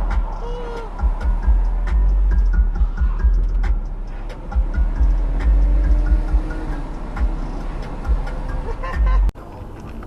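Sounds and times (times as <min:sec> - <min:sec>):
car interior low rumble: 0:00.0 - 0:10.0.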